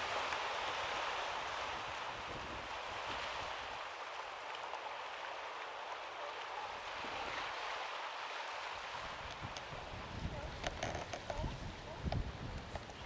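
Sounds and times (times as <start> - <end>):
surf on rocky shore: 0.0 - 13.0.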